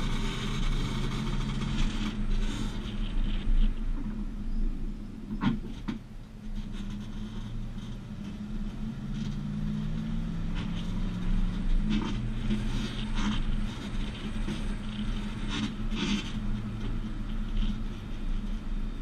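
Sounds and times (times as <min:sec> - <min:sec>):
engine hum: 0:00.0 - 0:19.0
road rumble: 0:00.0 - 0:19.0.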